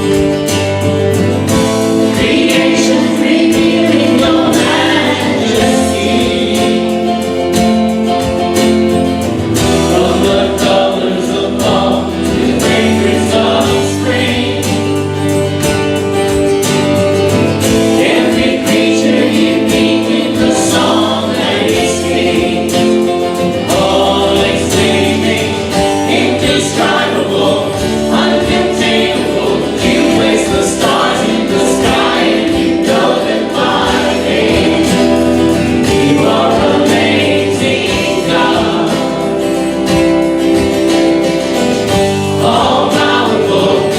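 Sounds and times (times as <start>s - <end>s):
congregation singing: 0.0s - 43.9s
instrumental accompaniment: 0.0s - 43.9s.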